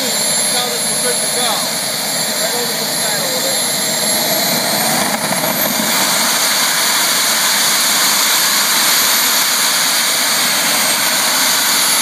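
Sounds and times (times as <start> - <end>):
high-pitched turbine whine: 0.0 - 12.0
turbine engine rushing hiss: 0.0 - 12.0.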